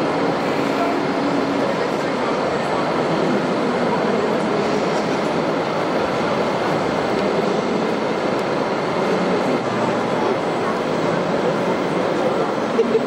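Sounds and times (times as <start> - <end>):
crowd murmur in large hall: 0.0 - 13.0.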